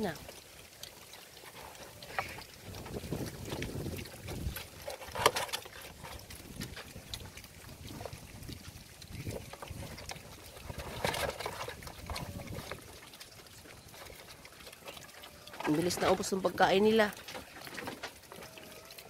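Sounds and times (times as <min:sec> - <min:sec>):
piglets chewing and slurping: 0:00.0 - 0:19.0.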